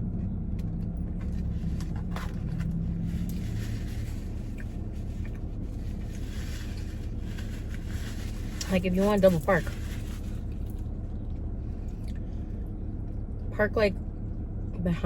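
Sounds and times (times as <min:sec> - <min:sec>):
car engine idling: 0:00.0 - 0:15.0
hum: 0:00.0 - 0:15.0.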